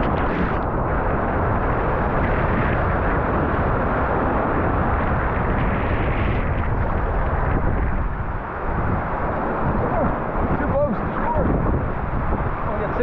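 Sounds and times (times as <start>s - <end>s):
breaking surf rushing: 0.0s - 13.0s
wind buffeting microphone: 0.0s - 13.0s.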